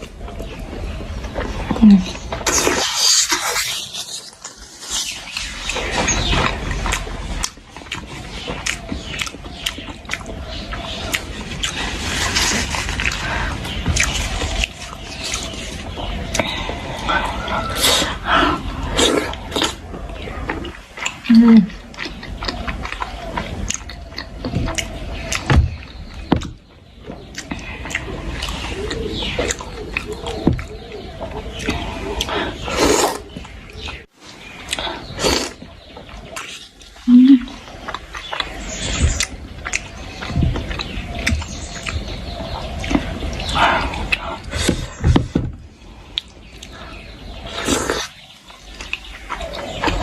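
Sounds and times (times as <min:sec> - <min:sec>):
chewing dumplings: 0:00.0 - 0:50.0.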